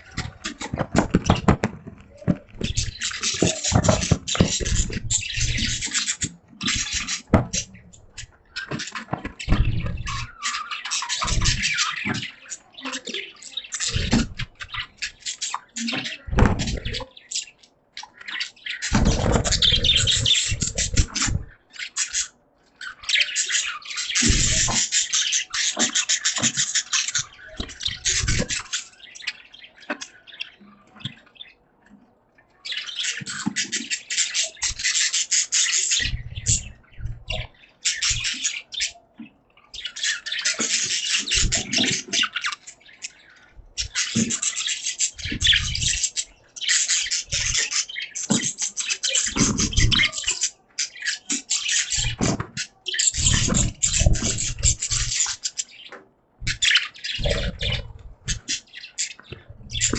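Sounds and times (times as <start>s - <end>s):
budgerigars chattering: 0.0s - 31.6s, 32.6s - 59.9s.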